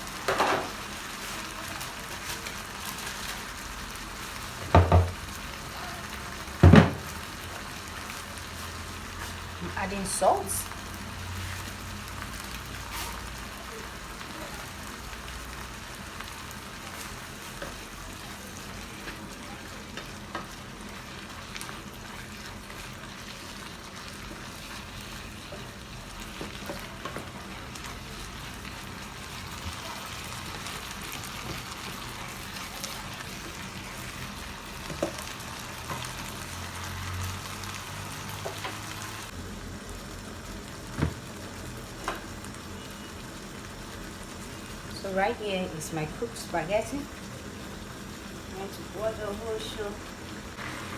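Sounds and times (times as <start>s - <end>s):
vegetables sizzling in oil: 0.0s - 50.9s.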